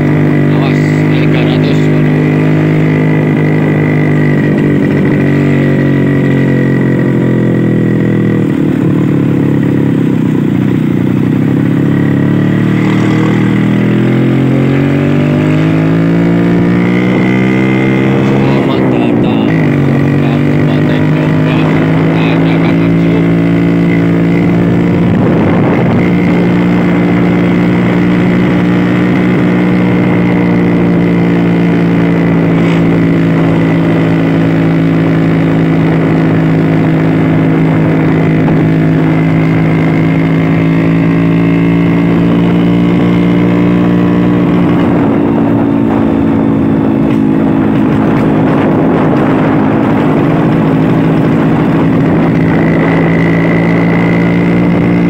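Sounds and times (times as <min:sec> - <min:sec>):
scooter engine cruising: 0:00.0 - 0:55.0.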